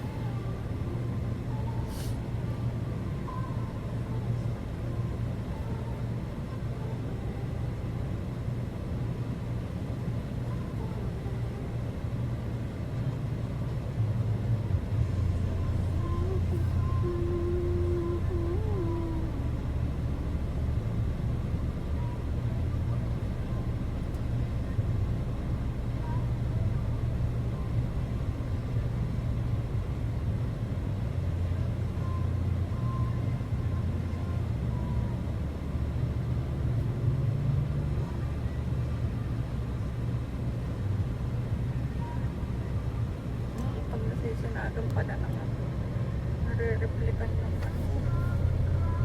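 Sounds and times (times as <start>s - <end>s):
car driving low rumble: 0.0s - 49.0s.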